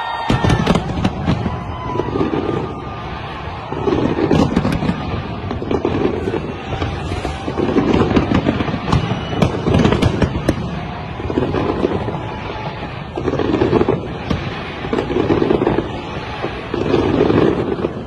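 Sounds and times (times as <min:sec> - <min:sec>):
fireworks bangs and crackles: 0:00.0 - 0:18.0
low rumble of explosions: 0:00.0 - 0:18.0.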